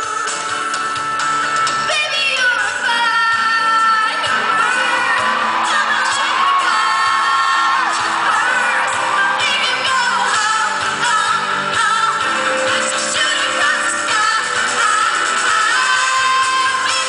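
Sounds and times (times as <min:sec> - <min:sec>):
pop backing track with drums: 0:00.0 - 0:17.0
woman singing: 0:00.0 - 0:17.0.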